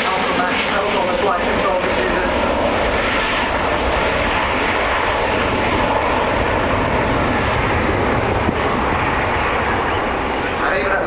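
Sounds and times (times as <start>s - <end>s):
jet airliner rumble and roar: 0.0s - 11.0s.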